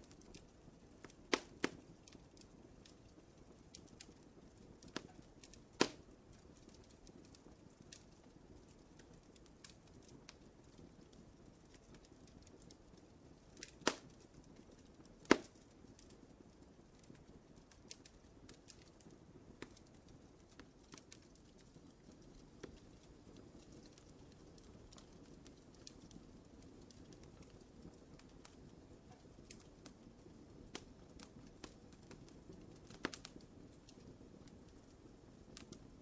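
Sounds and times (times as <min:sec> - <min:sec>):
fire pops: 0:00.0 - 0:36.0
wood fire crackling: 0:00.0 - 0:36.0.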